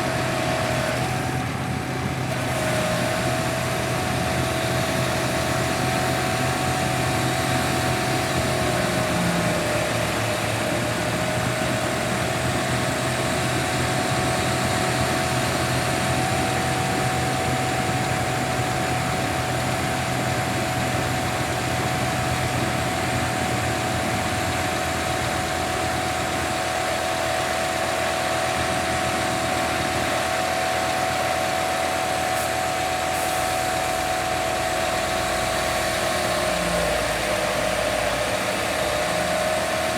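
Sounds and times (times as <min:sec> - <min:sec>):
diesel truck engine whining: 0:00.0 - 0:39.9.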